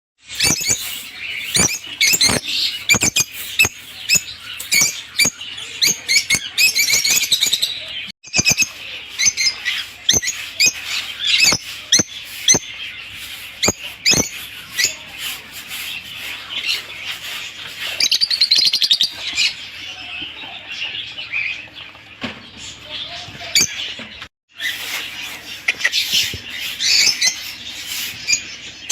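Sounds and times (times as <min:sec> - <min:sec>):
lovebirds chirping: 0:00.2 - 0:28.9.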